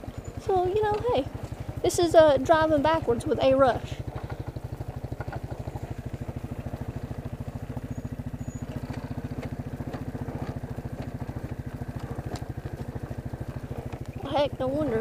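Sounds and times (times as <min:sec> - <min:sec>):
atv engine running at low revs: 0:00.0 - 0:15.0.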